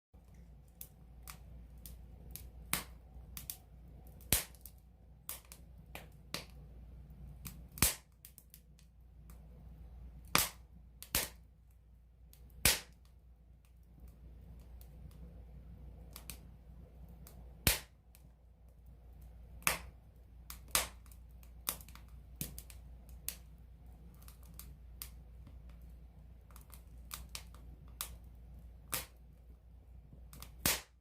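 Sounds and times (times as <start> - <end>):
campfire crackling and popping: 0.2 - 9.4, 10.2 - 11.7, 12.3 - 29.4, 30.3 - 31.0
low rumble of flames: 0.2 - 31.0.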